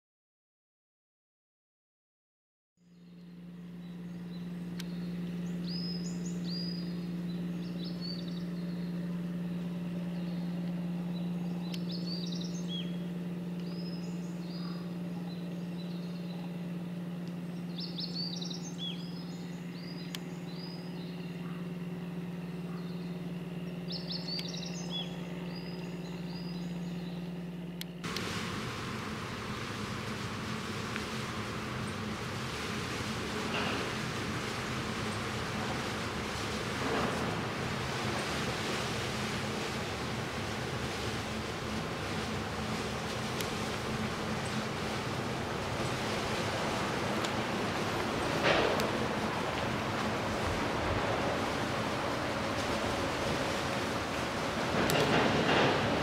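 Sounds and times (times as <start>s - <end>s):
songbird chirping: 2.8s - 28.3s, 29.2s - 55.7s
ship engine drone: 2.8s - 56.0s.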